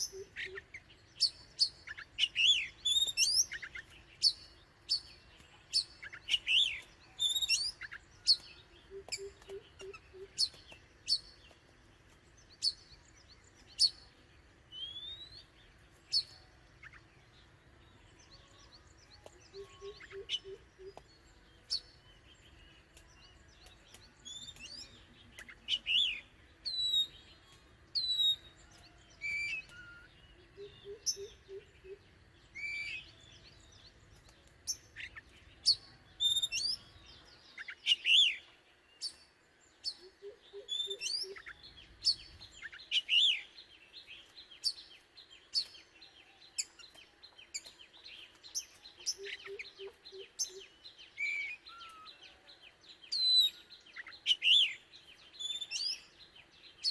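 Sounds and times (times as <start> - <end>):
bird singing whistles and chirps: 0.0 - 14.1, 14.7 - 56.9.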